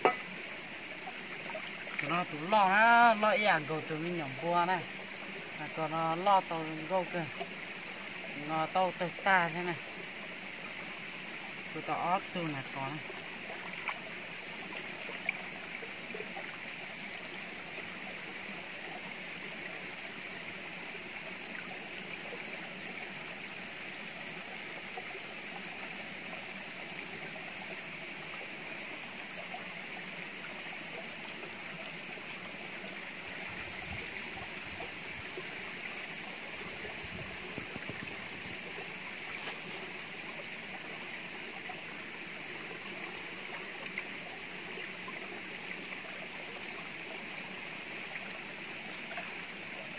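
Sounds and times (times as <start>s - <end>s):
stream running over rocks: 0.0s - 49.9s.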